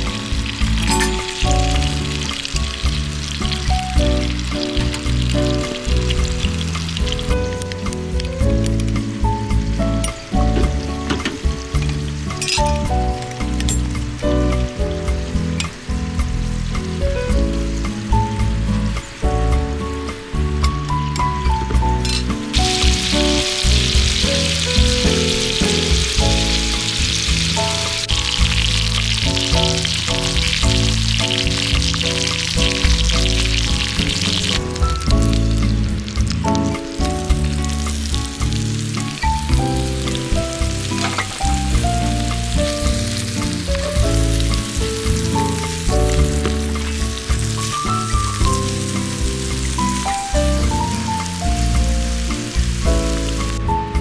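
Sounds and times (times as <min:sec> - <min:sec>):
chicken sizzling in a pan: 0:00.0 - 0:53.7
background music: 0:00.0 - 0:54.0.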